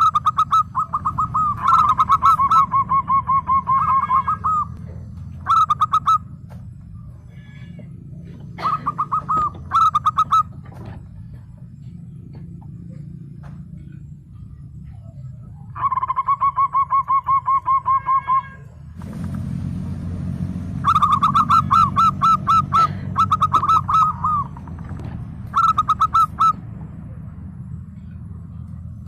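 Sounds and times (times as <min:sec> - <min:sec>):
dove cooing: 0:00.0 - 0:06.6, 0:07.6 - 0:18.6, 0:20.8 - 0:27.4
steady low hum: 0:00.0 - 0:29.0.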